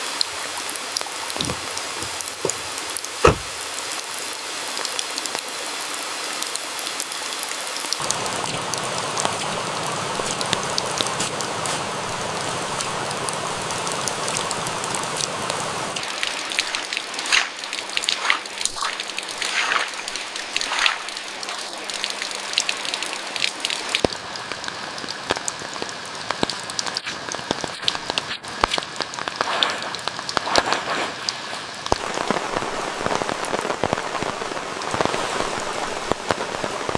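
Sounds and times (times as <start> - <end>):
crackles and drips: 0.0 - 36.9
rain falling: 0.0 - 36.9.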